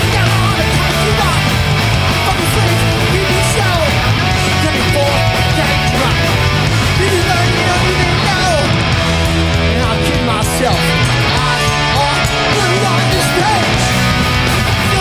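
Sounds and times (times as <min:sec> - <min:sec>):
bass guitar: 0:00.0 - 0:15.0
distorted electric guitars: 0:00.0 - 0:15.0
drums: 0:00.0 - 0:15.0.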